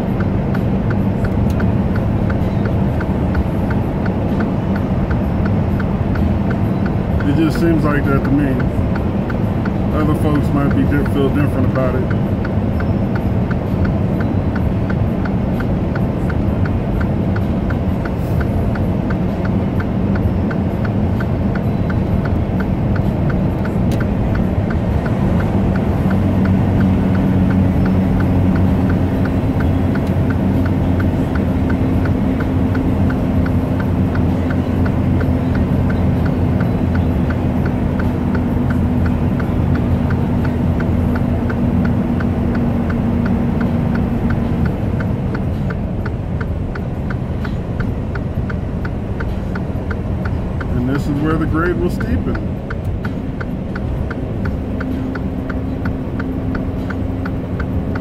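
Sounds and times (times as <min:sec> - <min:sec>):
higher steady engine tone: 0:00.0 - 0:58.0
truck engine and road drone: 0:00.0 - 0:58.0
hazard light flasher ticking: 0:00.1 - 0:58.0.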